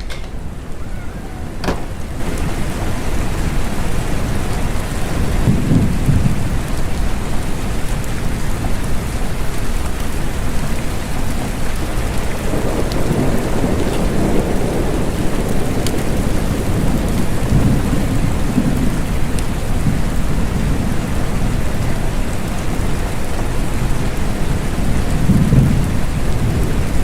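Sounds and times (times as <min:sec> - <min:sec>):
steady rain falling: 0:00.0 - 0:27.0
thunder rolling: 0:00.0 - 0:27.0.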